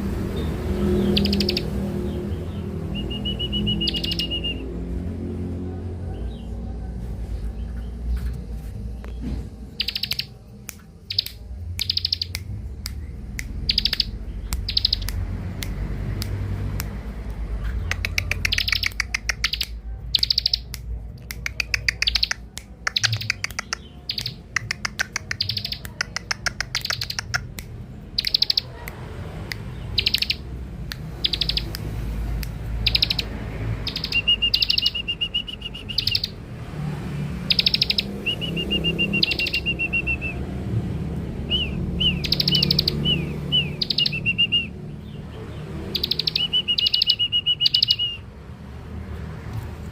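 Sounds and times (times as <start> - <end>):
bird ticking chip calls: 0.3 - 4.7, 9.7 - 28.9, 29.5 - 36.4, 37.4 - 40.4, 41.4 - 48.2.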